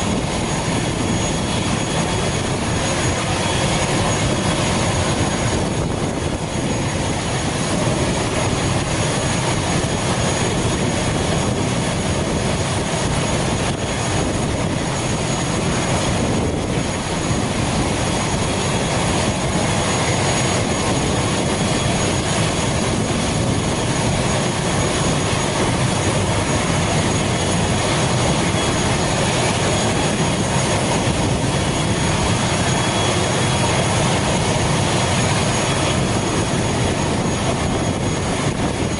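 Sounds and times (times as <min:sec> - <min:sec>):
turboprop engine whine: 0:00.0 - 0:38.9.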